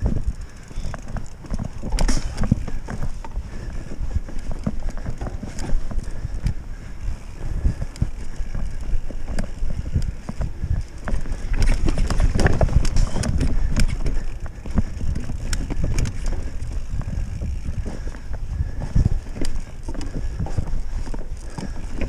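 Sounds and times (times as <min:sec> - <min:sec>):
mountain bike rattling and knocking: 0:00.0 - 0:22.0.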